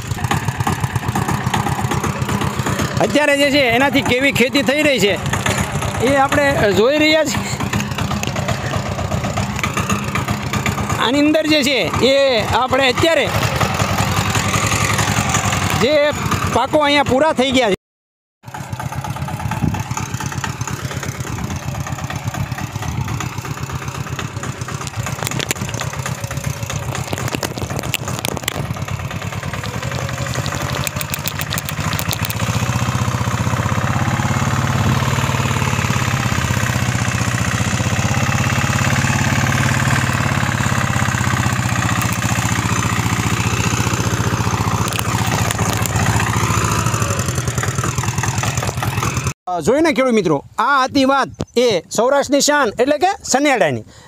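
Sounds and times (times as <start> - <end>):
tractor diesel engine running: 0.0 - 17.6, 18.4 - 49.4.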